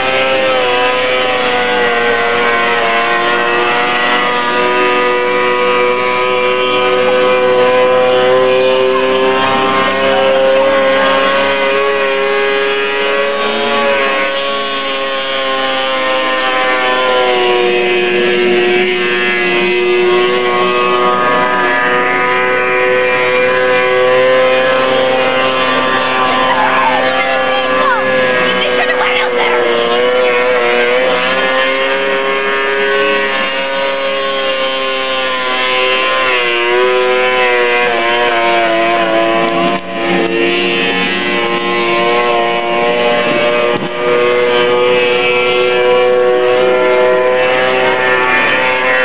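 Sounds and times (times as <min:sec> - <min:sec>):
snowmobile engine at high revs: 0:00.0 - 0:49.0.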